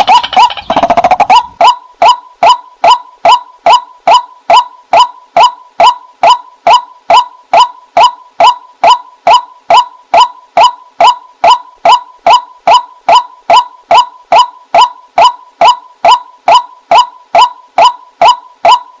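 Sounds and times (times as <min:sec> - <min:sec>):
waterhen call: 0:00.0 - 0:19.0.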